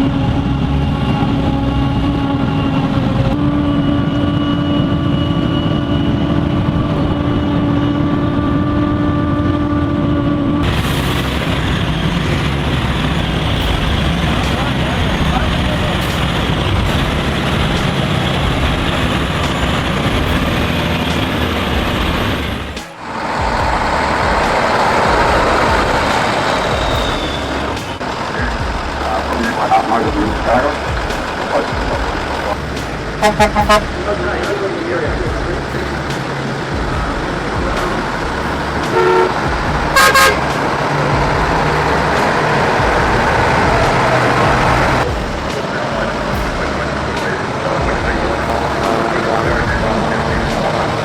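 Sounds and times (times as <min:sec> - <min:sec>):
heavy truck engines under load: 0:00.0 - 0:51.0.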